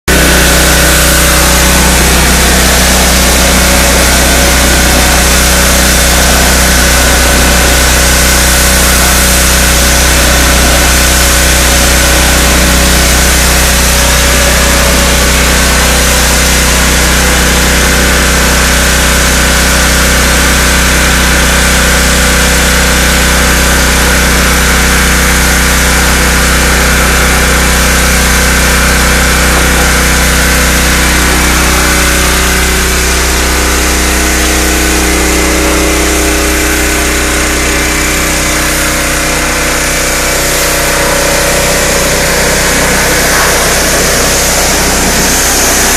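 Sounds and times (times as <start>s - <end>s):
pressure washer engine running: 0.0s - 45.9s
water jet hissing on boards: 0.1s - 45.9s.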